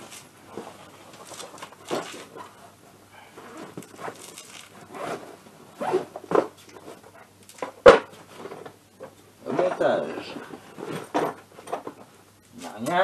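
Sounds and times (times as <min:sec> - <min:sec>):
rustles and scrapes of rummaging: 0:00.0 - 0:13.0.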